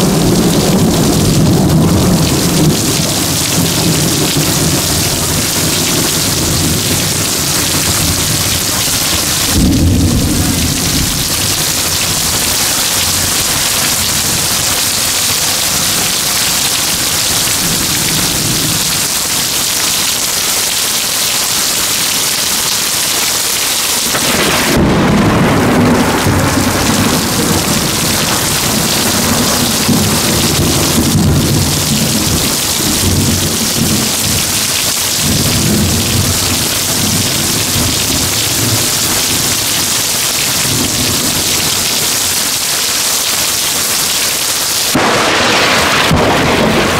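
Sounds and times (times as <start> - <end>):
thunder rumbling: 0.0 - 19.8, 24.0 - 42.1, 44.9 - 46.9
heavy rain pouring: 0.0 - 46.9.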